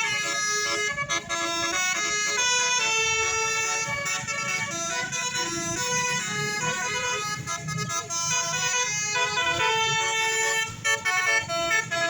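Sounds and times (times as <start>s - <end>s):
musical air horn playing a tune: 0.0s - 12.0s.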